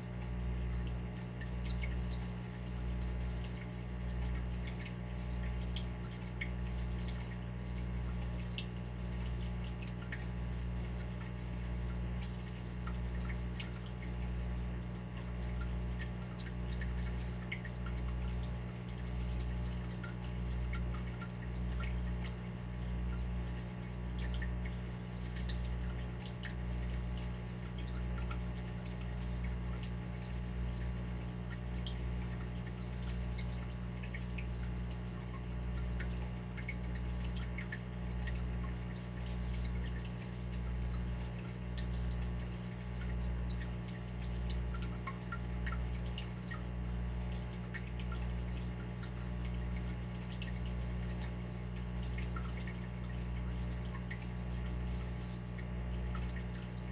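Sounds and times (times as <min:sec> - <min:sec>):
water dripping and trickling: 0:00.0 - 0:56.9.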